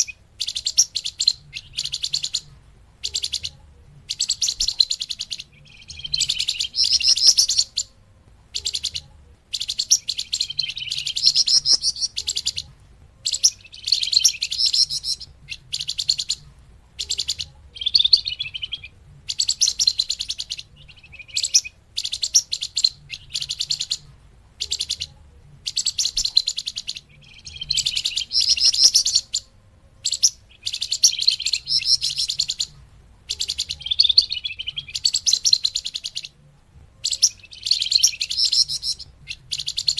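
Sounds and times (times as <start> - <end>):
songbird rapid high chirping: 0.0 - 39.9.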